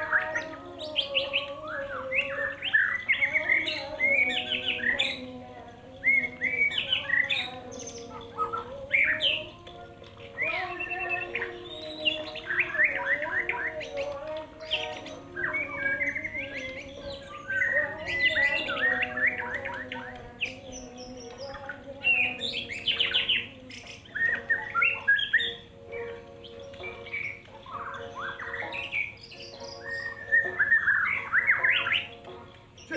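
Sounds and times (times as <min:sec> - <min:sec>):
songbirds chirping and whistling: 0:00.0 - 0:32.9.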